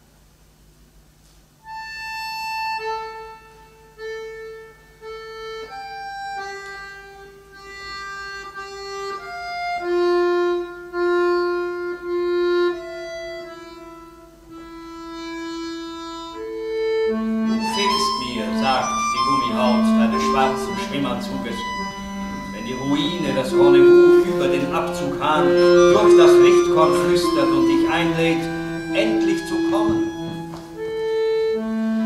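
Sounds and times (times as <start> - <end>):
slow solo instrumental melody: 1.6 - 32.0.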